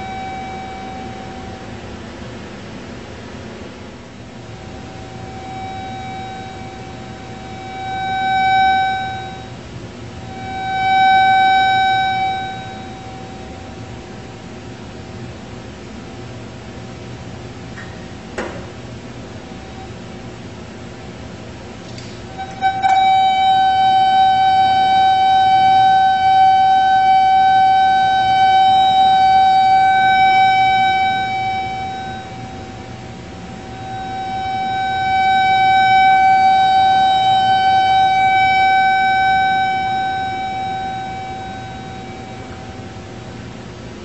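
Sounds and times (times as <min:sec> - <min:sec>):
steady electronic tone: 0:00.0 - 0:14.7, 0:22.3 - 0:43.9.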